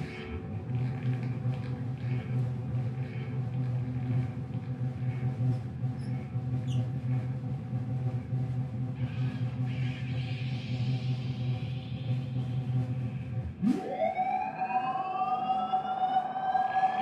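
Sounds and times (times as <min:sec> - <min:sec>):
low bass drone: 0:00.0 - 0:17.0.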